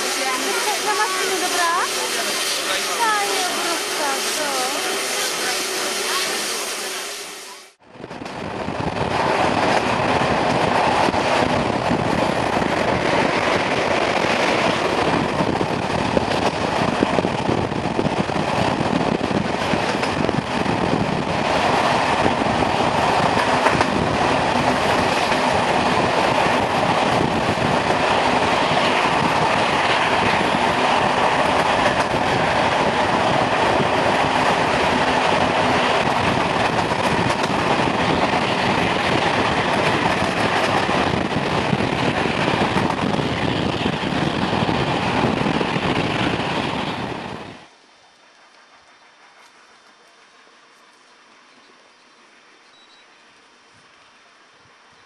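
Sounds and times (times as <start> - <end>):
steam locomotive engine working: 0.0 - 55.0
train wheels on rail: 0.0 - 55.0.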